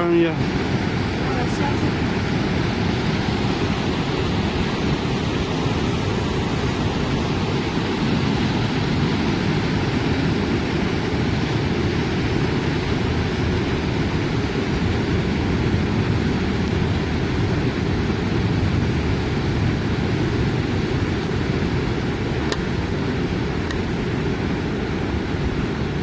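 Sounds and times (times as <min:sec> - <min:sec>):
waterfall and rapids rushing: 0:00.0 - 0:26.0.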